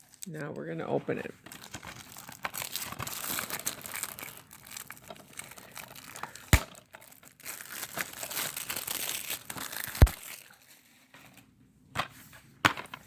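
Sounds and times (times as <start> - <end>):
plastic shrink wrap crinkling: 0.0 - 11.4.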